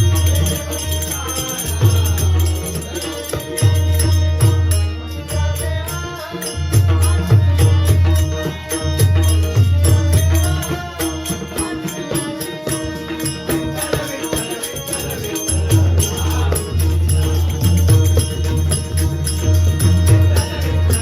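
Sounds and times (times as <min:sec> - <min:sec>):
voices singing: 0:00.0 - 0:21.0.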